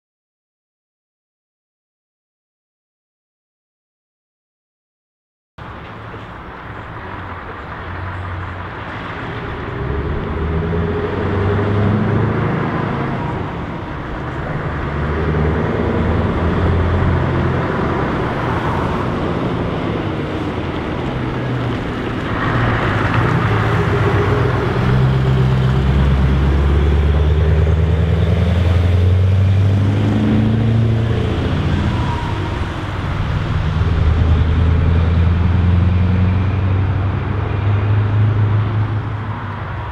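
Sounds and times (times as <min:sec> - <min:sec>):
road traffic: 0:05.6 - 0:39.9
truck diesel engine pulling away: 0:05.6 - 0:39.9.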